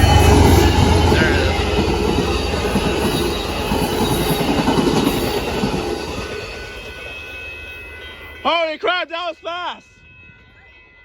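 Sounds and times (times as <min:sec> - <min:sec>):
passenger train passing: 0:00.0 - 0:11.0.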